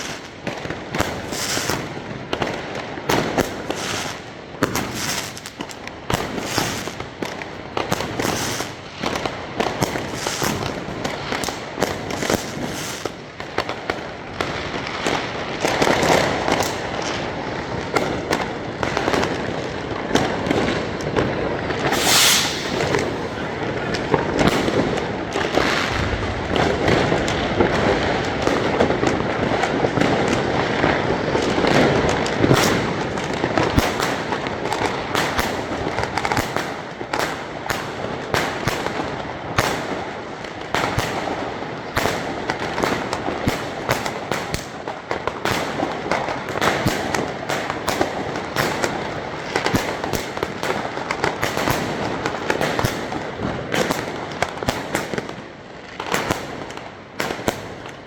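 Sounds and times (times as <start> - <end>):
fireworks and firecrackers crackling: 0.0 - 58.0.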